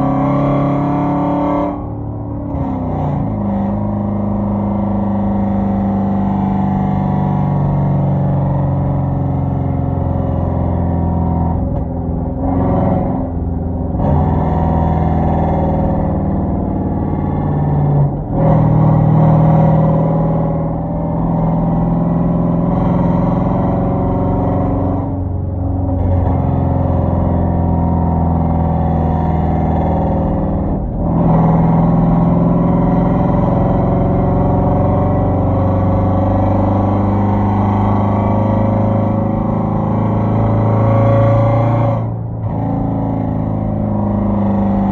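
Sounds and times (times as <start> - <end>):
car exhaust note while driving: 0.0 - 44.9.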